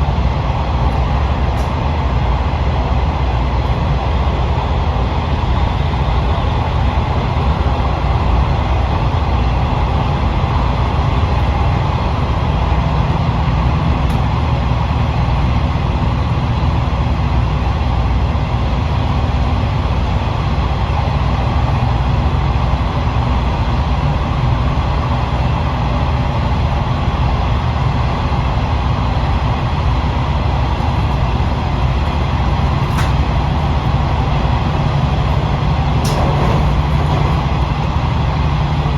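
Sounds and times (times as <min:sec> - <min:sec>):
diesel engine drone: 0:00.0 - 0:38.9
wheels rumbling on rail: 0:00.0 - 0:38.9.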